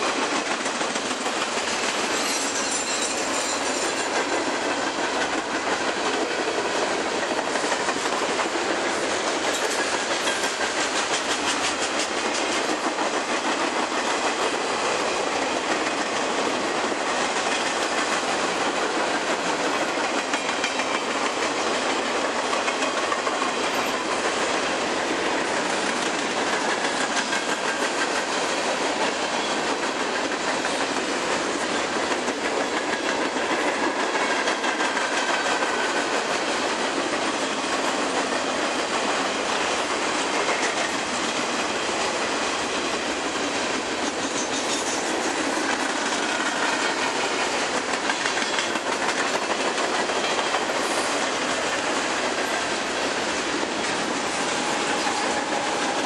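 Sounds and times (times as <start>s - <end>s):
freight train cars rumbling: 0.0s - 56.0s
steel wheels clacking on rail joints: 0.0s - 56.0s.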